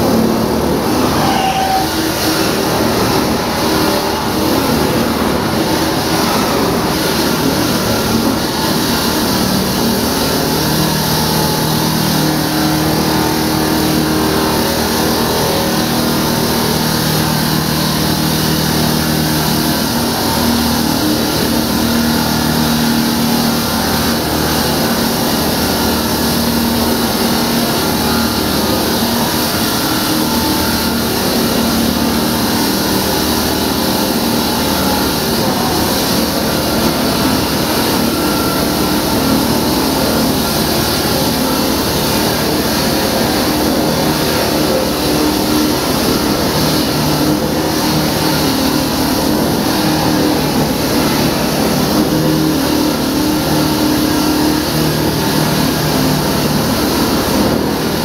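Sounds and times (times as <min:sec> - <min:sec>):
concrete cutter grinding hiss: 0:00.0 - 0:58.0
engine drone: 0:00.0 - 0:58.0.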